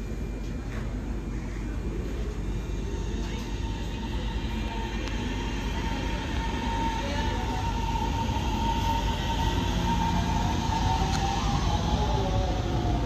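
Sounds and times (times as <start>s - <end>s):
locomotive whine over low rumble: 0.0s - 13.0s.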